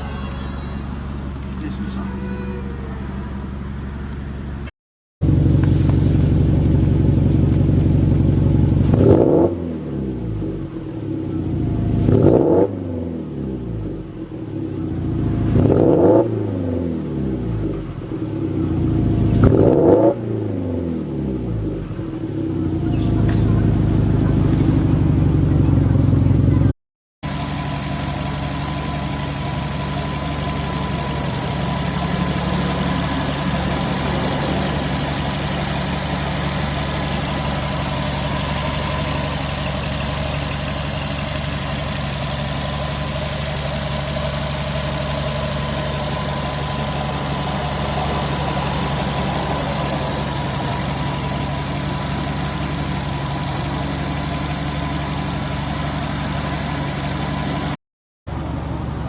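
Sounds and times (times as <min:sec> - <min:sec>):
car engine idling: 0:00.0 - 0:19.8, 0:21.0 - 0:59.0.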